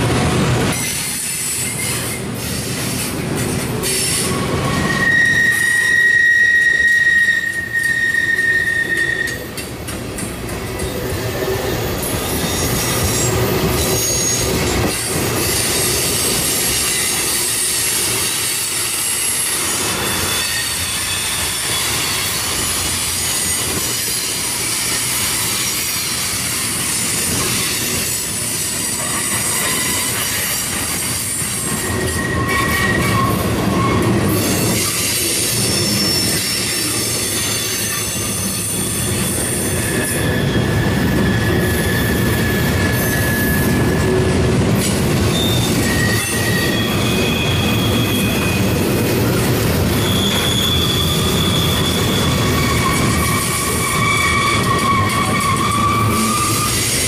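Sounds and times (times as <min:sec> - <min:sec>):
steel wheels rumbling on rail: 0:00.0 - 0:57.0
high-pitched wheel squeal: 0:04.0 - 0:09.5, 0:12.0 - 0:14.8, 0:15.4 - 0:48.9, 0:49.9 - 0:57.0.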